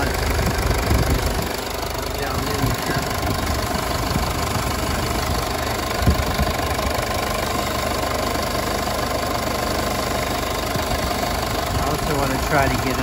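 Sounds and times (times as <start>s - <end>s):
diesel engine idling: 0.0s - 13.0s
short engine knock: 2.3s - 13.0s.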